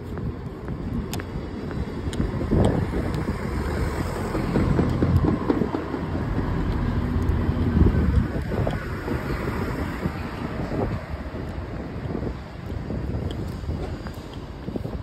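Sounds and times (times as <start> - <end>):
street traffic: 0.0 - 15.0
wind buffeting microphone: 0.0 - 15.0.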